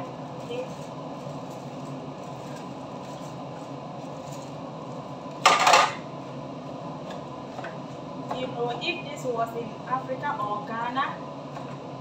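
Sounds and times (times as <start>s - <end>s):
kitchen background hum: 0.0s - 12.0s.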